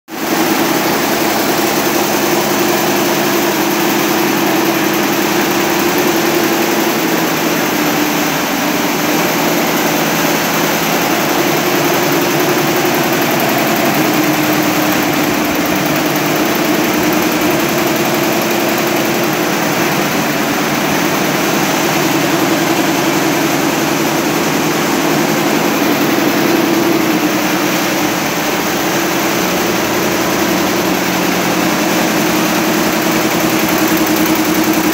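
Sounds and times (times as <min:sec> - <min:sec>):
embroidery machine stitching: 0:00.2 - 0:34.9.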